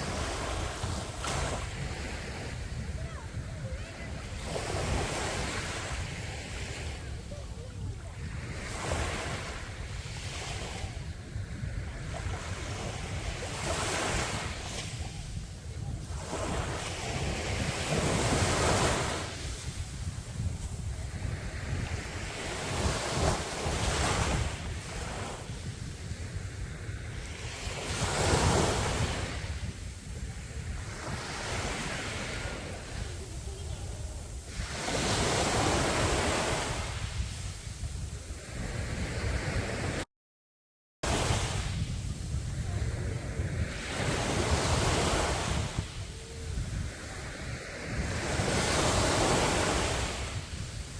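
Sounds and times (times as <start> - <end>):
sea waves breaking: 0.0 - 40.0, 41.0 - 50.9
wind rumbling on microphone: 0.0 - 40.1, 41.0 - 50.9.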